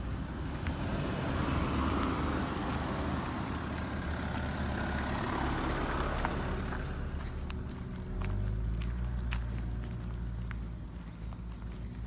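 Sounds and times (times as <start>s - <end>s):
car driving along road: 0.0s - 12.0s.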